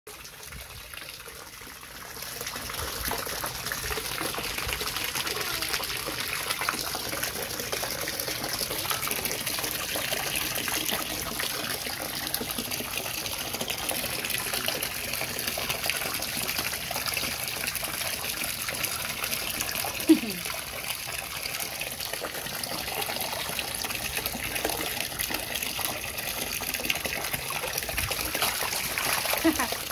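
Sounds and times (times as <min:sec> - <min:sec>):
water gushing into metal basin: 0:00.1 - 0:29.9.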